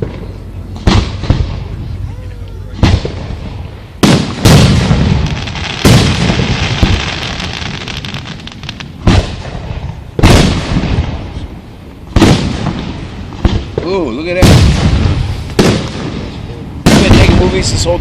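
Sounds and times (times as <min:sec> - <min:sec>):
fireworks booming: 0:00.0 - 0:18.0
fireworks crackling: 0:00.0 - 0:18.0.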